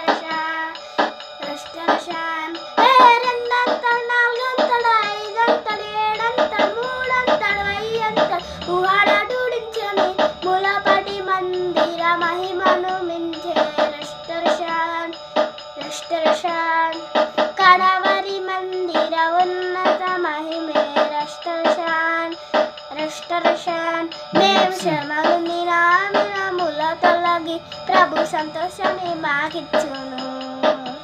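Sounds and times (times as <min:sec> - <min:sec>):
boy singing: 0:00.0 - 0:00.8, 0:01.4 - 0:15.2, 0:15.8 - 0:31.0
backing track with steady beat: 0:00.0 - 0:31.0.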